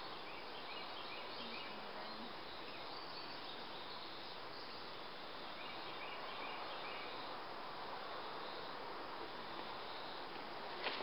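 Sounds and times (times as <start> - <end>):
insect chirps: 0.0 - 11.0
outdoor background noise: 0.0 - 11.0.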